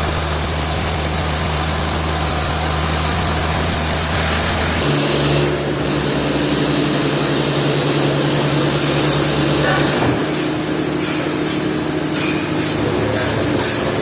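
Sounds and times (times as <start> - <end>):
sawmill machinery humming: 0.0 - 14.0.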